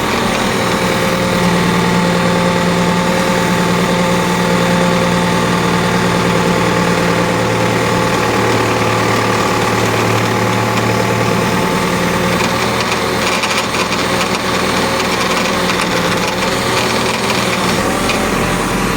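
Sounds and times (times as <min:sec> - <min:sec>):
backhoe engine running: 0:00.0 - 0:18.9
hydraulic pump noise: 0:00.0 - 0:18.9.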